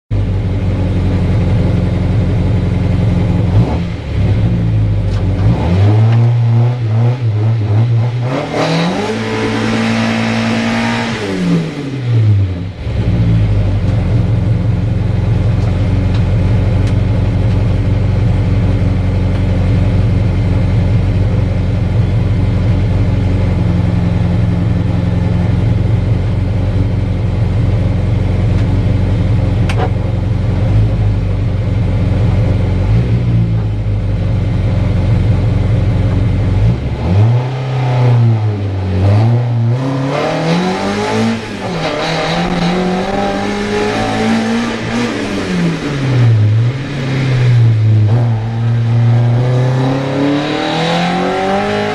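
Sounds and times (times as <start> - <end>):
car engine revving: 0.2 - 51.9.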